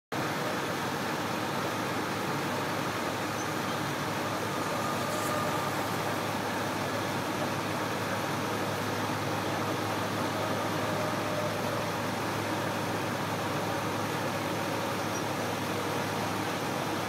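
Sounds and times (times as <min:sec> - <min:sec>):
road traffic noise: 0:00.1 - 0:17.0
diesel engines droning: 0:00.2 - 0:17.0.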